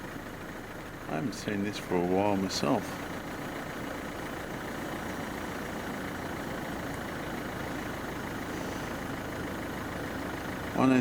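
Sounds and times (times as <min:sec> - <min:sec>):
car engine and road hum: 0:00.0 - 0:11.0.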